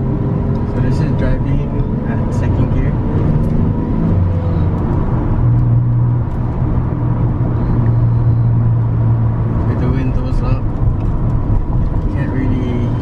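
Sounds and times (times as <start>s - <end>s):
engine drone inside car cab: 0.0s - 13.0s.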